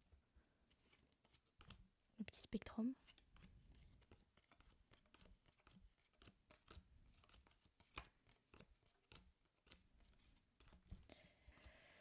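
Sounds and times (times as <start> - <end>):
trading cards being handled: 0.6 - 1.9, 3.0 - 11.8.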